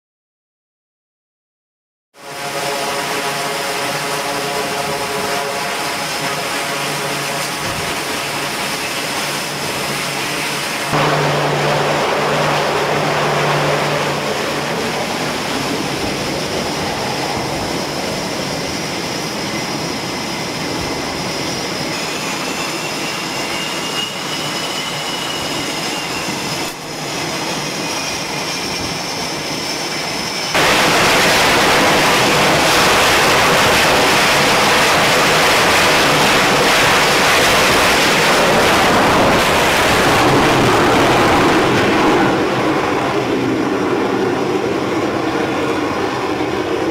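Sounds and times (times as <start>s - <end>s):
jet engines whining and roaring: 2.2s - 46.9s.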